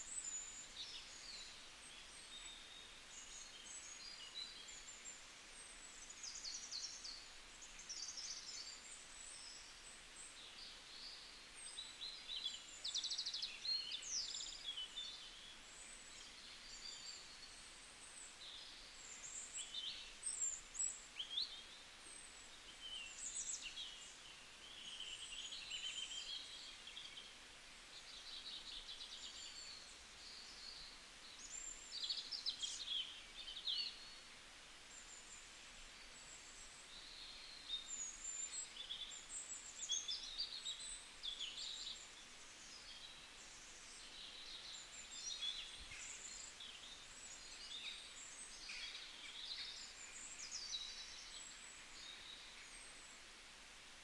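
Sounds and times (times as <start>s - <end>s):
small birds chirping and trilling: 0.0s - 53.4s
faint steady background hiss: 0.0s - 54.0s.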